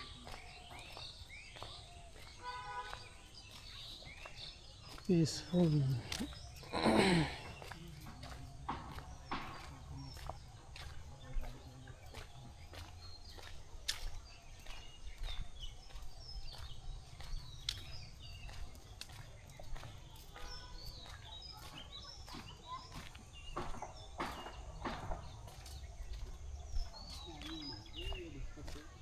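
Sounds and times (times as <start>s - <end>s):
footsteps on brick road: 0.0s - 29.0s
small birds chirping: 0.0s - 29.0s.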